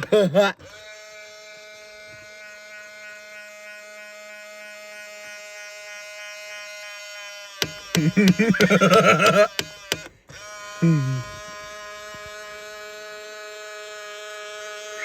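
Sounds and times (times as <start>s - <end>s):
mirror motor buzzing: 0.0s - 15.0s.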